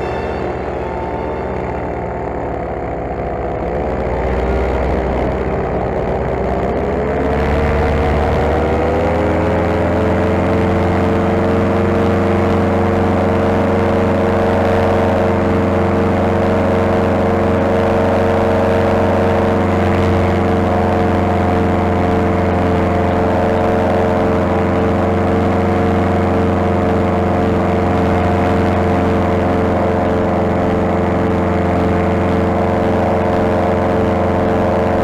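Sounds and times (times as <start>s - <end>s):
paramotor engine and propeller: 0.0s - 35.0s.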